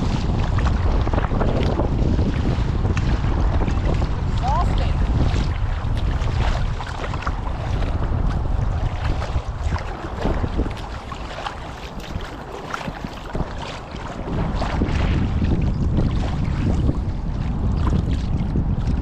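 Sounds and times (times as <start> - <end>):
water splashing from paddling: 0.0 - 19.0
wind buffeting microphone: 0.0 - 19.0.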